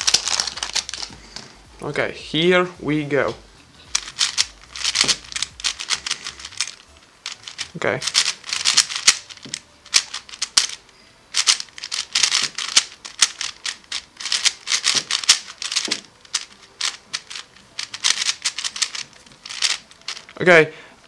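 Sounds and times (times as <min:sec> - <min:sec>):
speed cube layers clacking: 0:00.0 - 0:01.1, 0:03.9 - 0:20.4.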